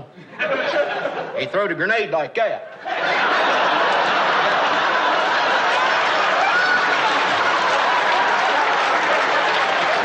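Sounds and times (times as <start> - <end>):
audience laughing: 0.0 - 1.5, 2.7 - 10.0.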